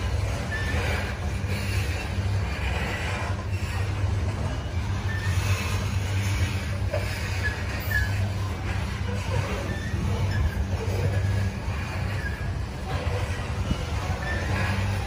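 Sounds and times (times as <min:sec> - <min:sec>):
train cars rolling on rails: 0:00.0 - 0:15.0.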